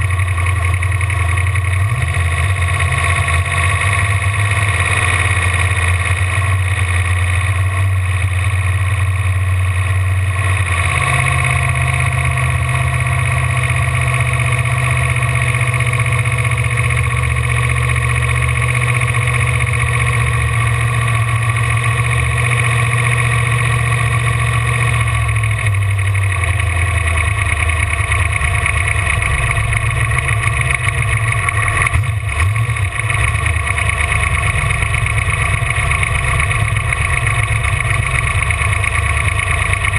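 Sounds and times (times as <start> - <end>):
boat engine running loudly: 0.0 - 39.9.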